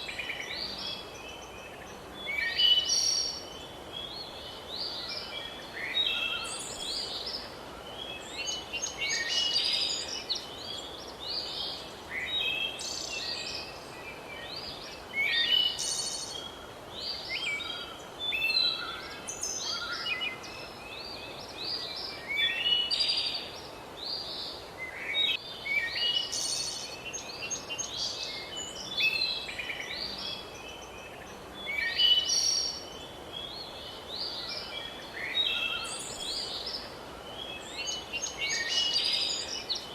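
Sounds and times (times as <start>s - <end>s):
faint outdoor hiss: 0.0s - 39.9s
songbirds chirping and singing: 0.0s - 39.9s.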